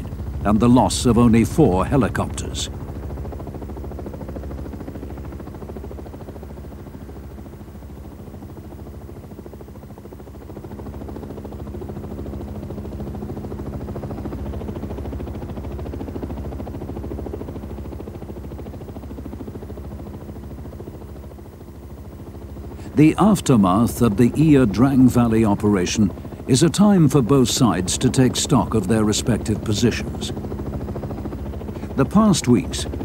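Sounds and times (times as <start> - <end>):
helicopter rotor drone: 0.0 - 33.0.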